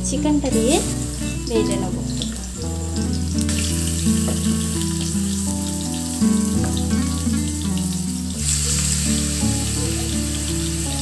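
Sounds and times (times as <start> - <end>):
background music with bass: 0.0 - 11.0
chicken sizzling in oil: 0.0 - 11.0.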